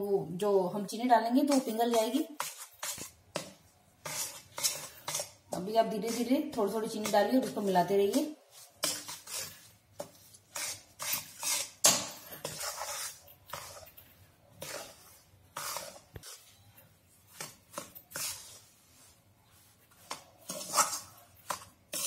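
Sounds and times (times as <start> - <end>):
spatula scraping in iron pan: 1.4 - 16.7, 17.3 - 22.0.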